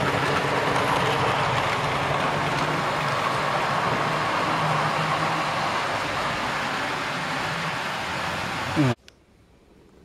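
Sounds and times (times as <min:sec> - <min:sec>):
wheels rolling on rails: 0:00.0 - 0:08.9.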